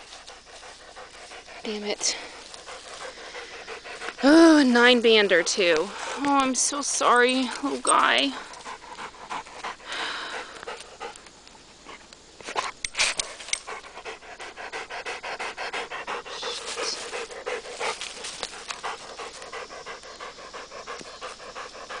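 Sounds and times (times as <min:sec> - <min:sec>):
dog panting rapidly: 0:00.0 - 0:11.3, 0:13.2 - 0:22.0.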